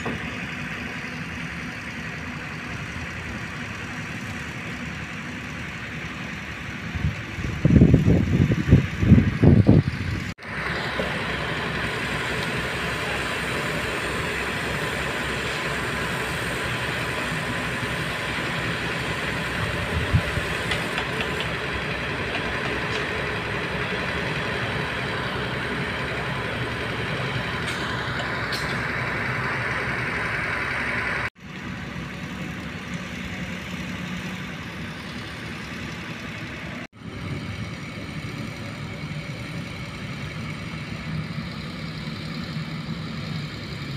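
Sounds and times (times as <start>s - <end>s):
diesel construction machinery running: 0.0s - 43.9s.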